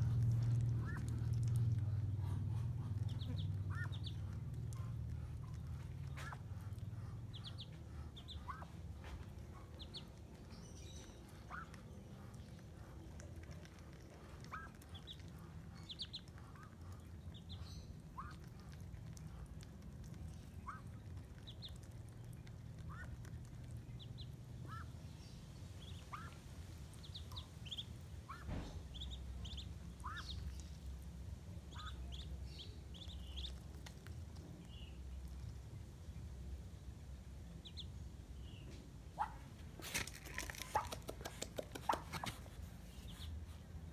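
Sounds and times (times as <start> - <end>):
steady low rumble: 0.0 - 41.0
ducklings peeping: 0.0 - 43.9.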